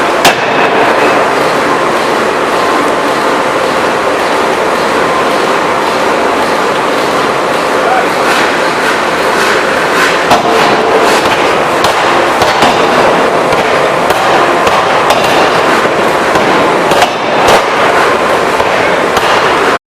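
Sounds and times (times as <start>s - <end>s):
loud steady din: 0.0s - 19.8s.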